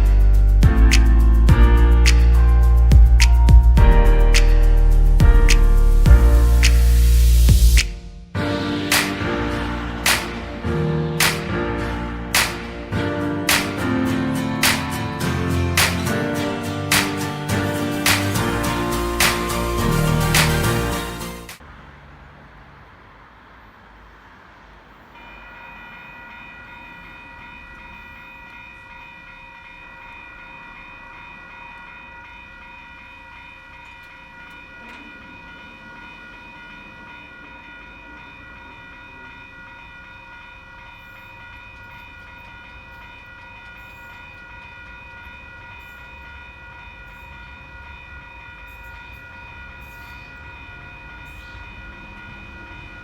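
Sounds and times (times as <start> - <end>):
level crossing warning bells: 0.0 - 22.1, 23.9 - 53.0.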